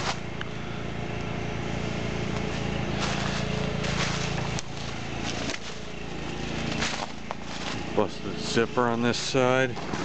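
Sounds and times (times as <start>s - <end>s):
footsteps crunching dry leaves: 0.0s - 10.0s
generator engine humming: 0.0s - 10.0s.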